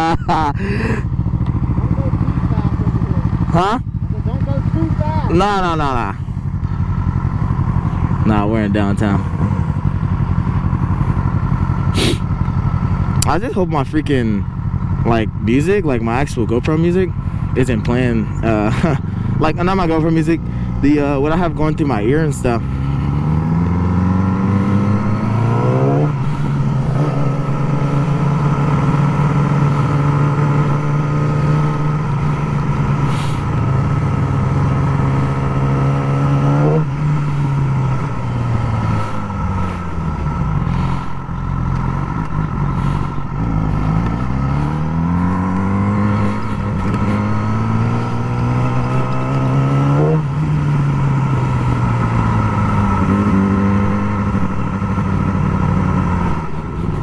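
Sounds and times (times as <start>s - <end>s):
sport motorcycle engine revving: 0.0s - 57.0s.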